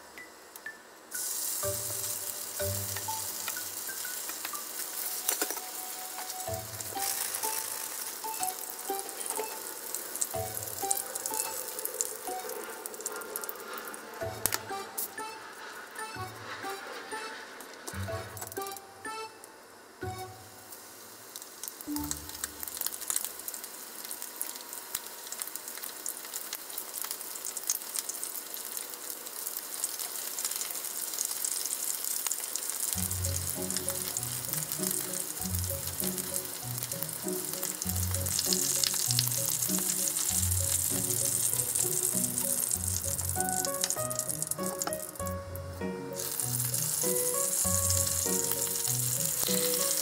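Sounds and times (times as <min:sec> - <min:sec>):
chicken frying in oil: 0:01.1 - 0:16.0, 0:20.7 - 0:45.4, 0:46.1 - 0:50.0.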